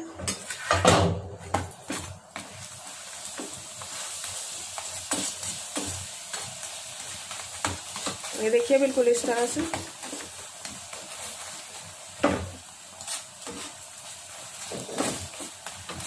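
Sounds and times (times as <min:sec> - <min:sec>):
flatbread sizzling in oil: 0:00.3 - 0:16.0.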